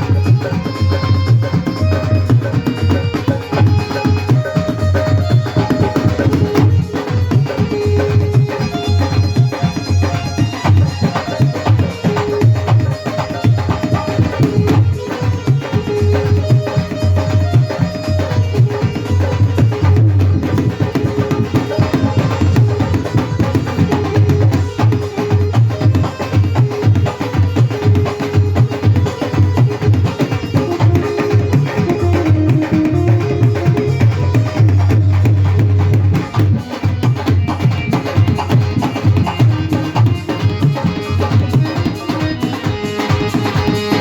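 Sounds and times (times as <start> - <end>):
hand drums fast rhythm: 0.0 - 44.0
keyboard held melody notes: 0.0 - 44.0.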